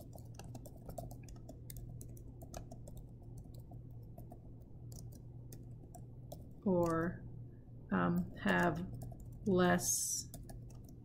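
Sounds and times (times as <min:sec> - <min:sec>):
typing on computer keyboard: 0:00.0 - 0:07.1, 0:08.2 - 0:11.0.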